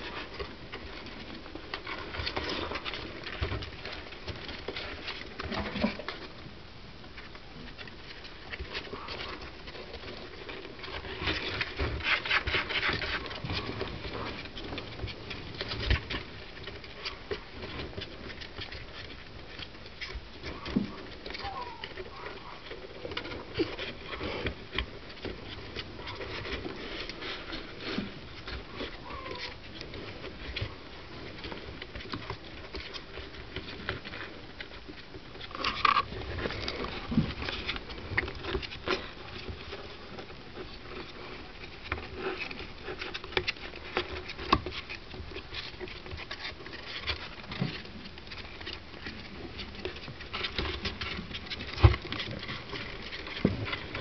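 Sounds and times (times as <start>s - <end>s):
rats scratching on cardboard: 0.0s - 54.0s.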